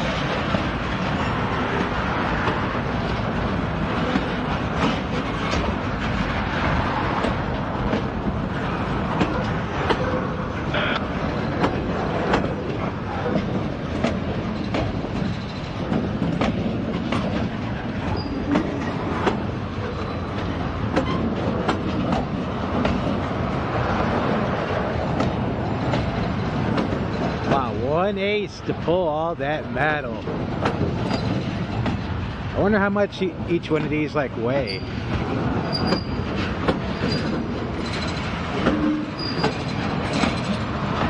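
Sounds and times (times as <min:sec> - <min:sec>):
wheels clicking over rail joints: 0:00.0 - 0:28.1, 0:28.7 - 0:41.0
freight train rumbling past: 0:00.0 - 0:41.0.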